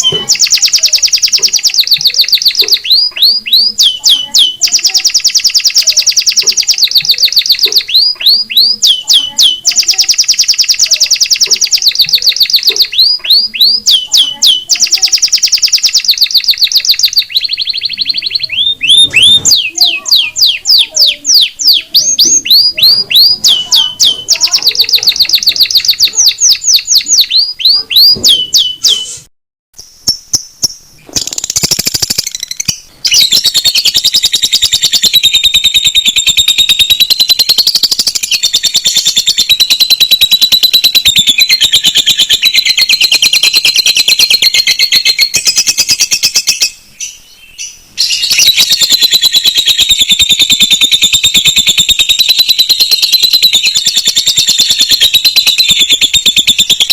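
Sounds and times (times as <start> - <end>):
fast chattering trill: 0.0 - 28.6, 31.2 - 46.6, 48.1 - 56.9
canary and lovebird song: 0.0 - 56.9.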